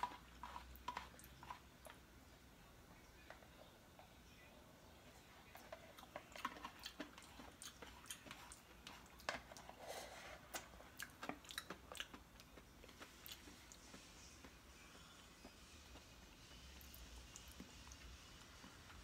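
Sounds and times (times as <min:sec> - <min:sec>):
person chewing: 0:00.0 - 0:02.0, 0:05.5 - 0:19.0.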